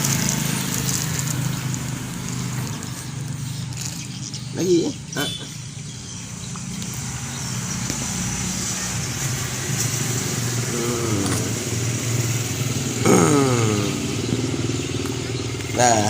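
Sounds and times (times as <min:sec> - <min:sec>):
vehicle engine passing: 0:00.0 - 0:16.0.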